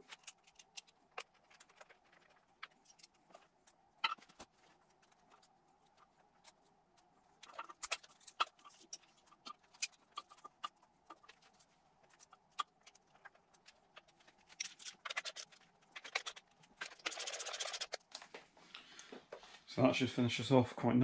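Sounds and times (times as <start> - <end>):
metal fasteners clicking and tapping: 0.0 - 6.6, 7.4 - 18.2.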